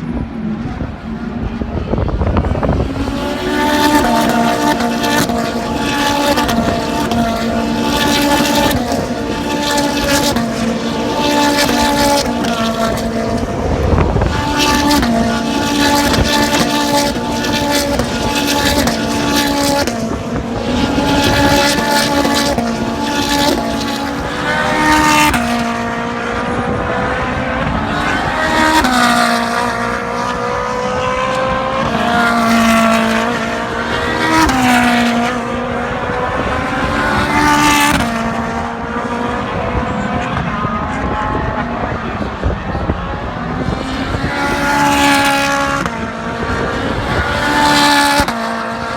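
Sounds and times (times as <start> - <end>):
racing car engines at high revs: 0.0 - 48.9.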